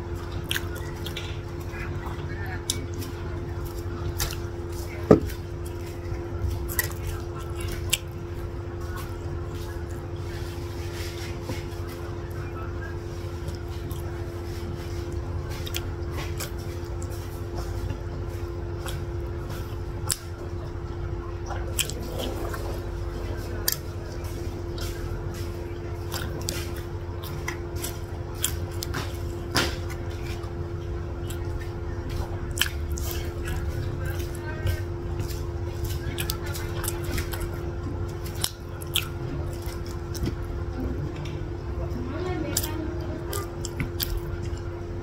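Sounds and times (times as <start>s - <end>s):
chewing and wet mouth sounds: 0.0s - 45.0s
steady low hum: 0.0s - 45.0s.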